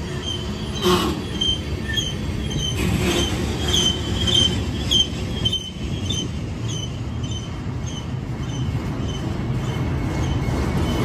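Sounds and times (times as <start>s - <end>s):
high wheel squeals: 0.0s - 11.0s
train wheels rumbling on rail: 0.0s - 11.0s.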